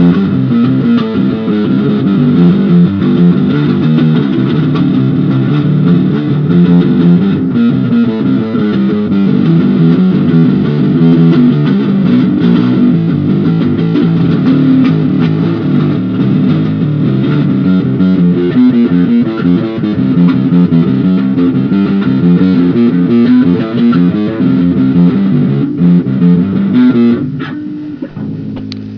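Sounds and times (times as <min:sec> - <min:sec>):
bass guitar: 0:00.0 - 0:28.9.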